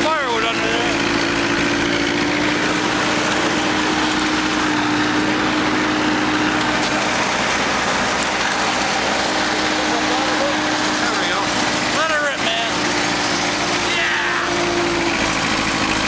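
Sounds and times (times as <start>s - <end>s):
diesel tractor engine running: 0.0s - 16.0s.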